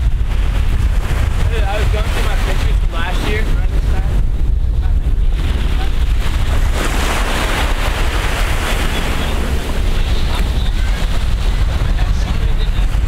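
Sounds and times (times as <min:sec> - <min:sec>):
surf breaking on sand: 0:00.0 - 0:13.0
wind buffeting microphone: 0:00.0 - 0:13.0.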